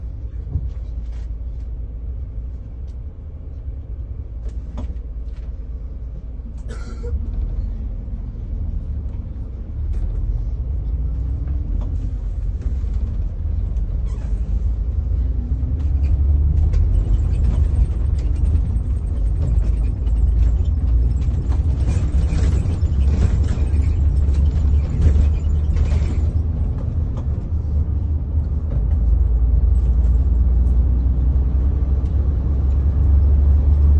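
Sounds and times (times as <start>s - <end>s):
motor vehicles rumbling: 0.0s - 33.9s.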